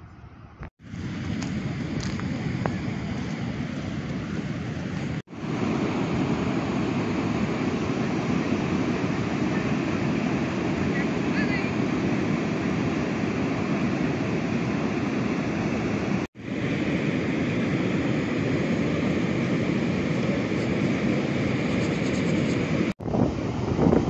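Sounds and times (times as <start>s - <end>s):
wind on microphone: 0.0s - 24.0s
ocean surf breaking: 0.8s - 21.8s.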